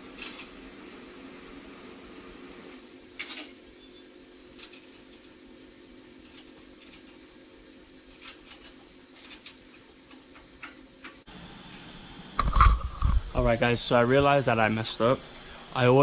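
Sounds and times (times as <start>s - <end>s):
repair shop hum and hiss: 0.0s - 16.0s.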